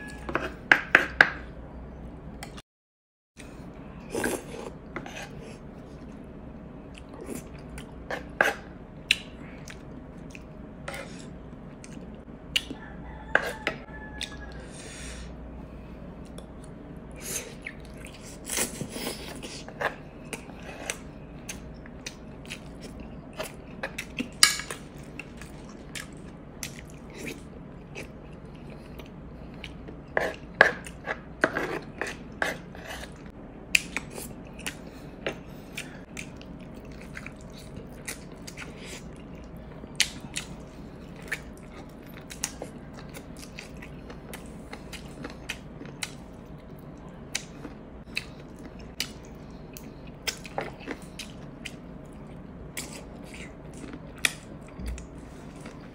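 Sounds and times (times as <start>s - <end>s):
chewing noodle soup: 3.4s - 14.8s, 16.2s - 55.9s
faint steady hum: 3.4s - 55.9s.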